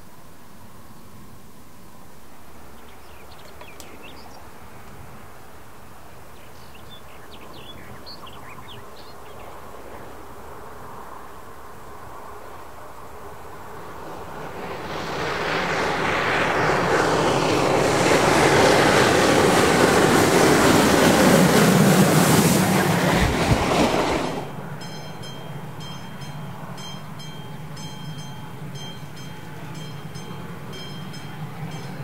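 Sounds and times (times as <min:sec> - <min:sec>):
distant train: 0:00.0 - 0:32.0
steam train passing: 0:00.0 - 0:32.0.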